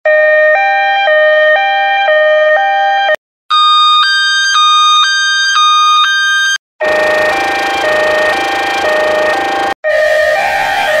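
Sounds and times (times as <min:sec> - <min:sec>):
two-tone ambulance siren: 0:00.0 - 0:11.0
higher-pitched two-tone siren: 0:00.1 - 0:11.0.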